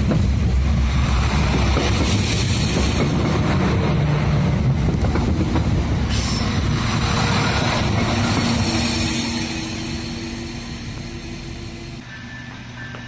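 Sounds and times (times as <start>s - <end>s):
train passing on rails: 0.0s - 13.0s.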